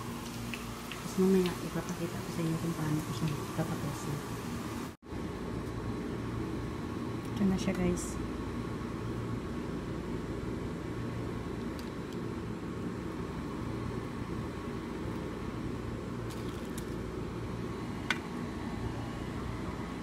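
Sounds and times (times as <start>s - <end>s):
appliance humming: 0.0s - 20.0s.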